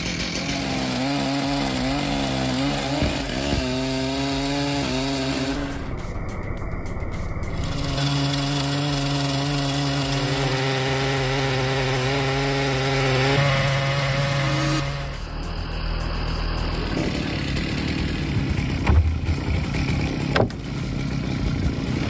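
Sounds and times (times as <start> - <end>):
chainsaw cutting log: 0.0 - 6.1, 7.5 - 15.4, 16.4 - 22.0
different engine: 0.0 - 22.0.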